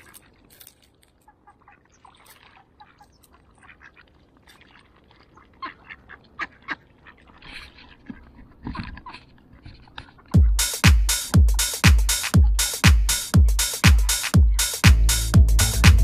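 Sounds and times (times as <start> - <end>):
ducks quacking: 1.3 - 16.0.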